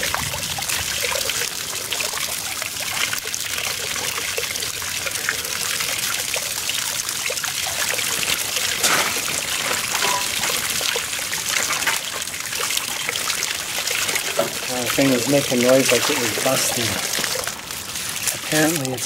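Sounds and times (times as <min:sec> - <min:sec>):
hose water splashing on steel: 0:00.0 - 0:19.0.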